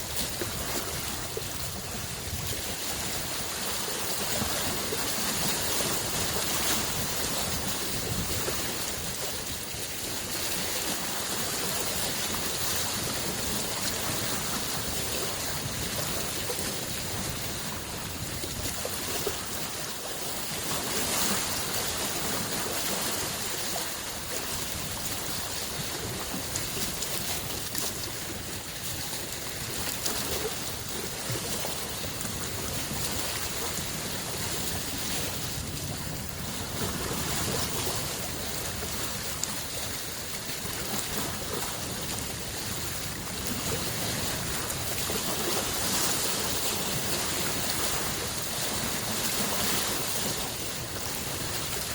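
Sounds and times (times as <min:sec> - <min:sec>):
lake waves lapping on shore: 0:00.0 - 0:51.9.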